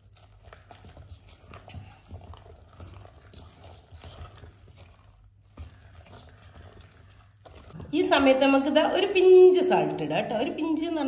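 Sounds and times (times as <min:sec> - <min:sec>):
whisk stirring batter in bowl: 0:00.0 - 0:11.0.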